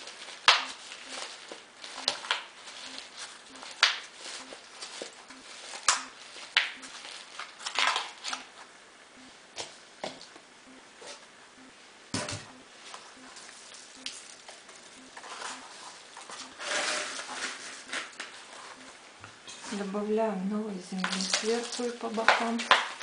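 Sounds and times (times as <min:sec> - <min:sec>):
leaves brushing: 0:00.0 - 0:08.7, 0:12.7 - 0:23.0.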